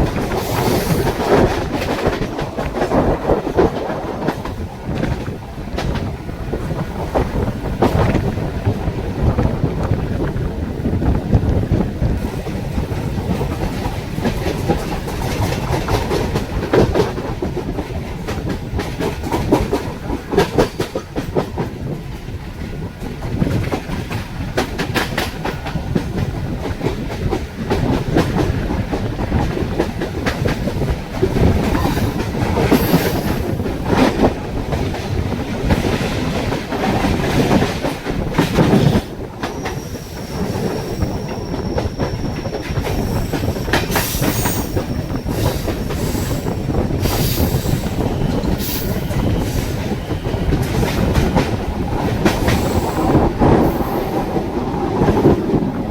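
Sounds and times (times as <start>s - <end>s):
train wheels clattering over rail joints: 0.0s - 55.9s.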